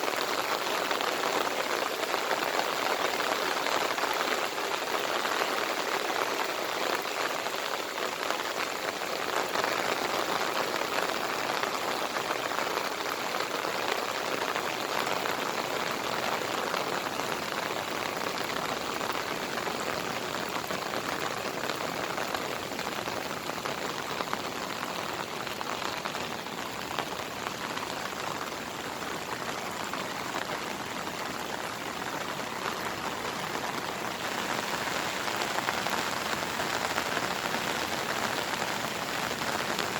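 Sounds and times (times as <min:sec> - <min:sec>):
heavy rain patter: 0:00.0 - 0:39.9.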